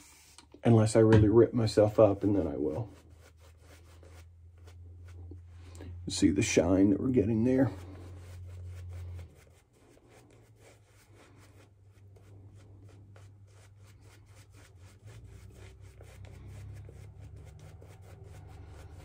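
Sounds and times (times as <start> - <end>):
shaving brush rubbing lather: 1.6 - 5.5, 6.1 - 19.0.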